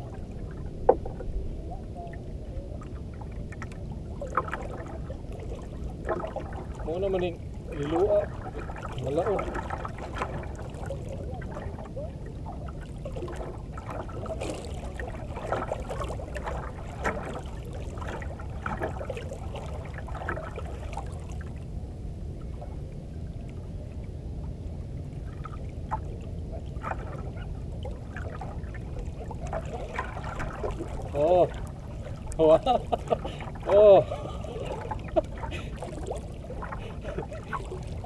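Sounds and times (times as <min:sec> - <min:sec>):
water splashing against boat hull: 0:00.0 - 0:21.6, 0:25.0 - 0:38.0
low rumble: 0:00.0 - 0:38.0.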